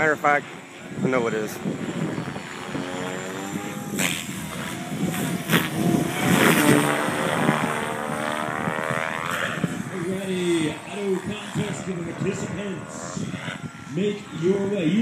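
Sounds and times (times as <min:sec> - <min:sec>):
rc helicopter rotor whine: 0:00.0 - 0:15.0
rotor swishes: 0:00.0 - 0:15.0.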